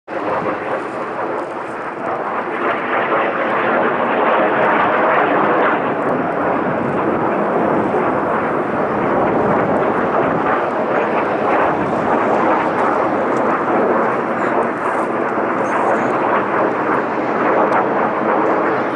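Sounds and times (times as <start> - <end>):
jet roar: 0.1 - 18.9.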